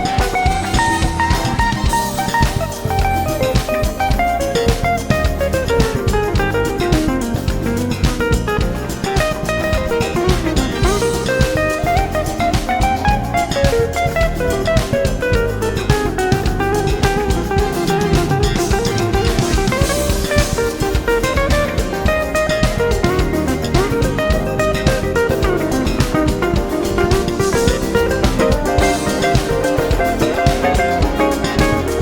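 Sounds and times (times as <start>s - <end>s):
bass: 0.0s - 32.0s
drum kit: 0.0s - 32.0s
electric guitar melodic runs: 0.0s - 32.0s
keyboards: 0.0s - 32.0s.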